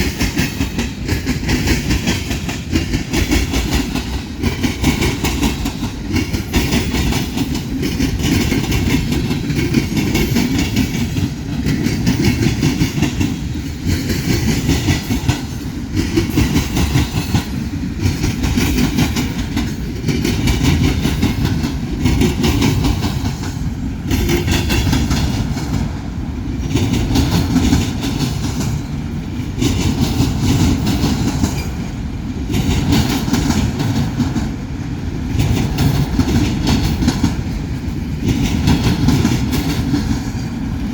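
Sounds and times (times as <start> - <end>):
freight train wheels rumbling: 0.0 - 40.9
train cars clattering: 0.0 - 40.9.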